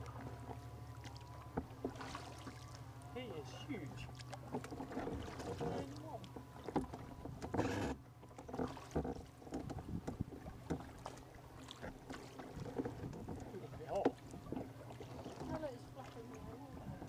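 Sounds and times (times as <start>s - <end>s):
paddle splashing in water: 0.0s - 17.0s.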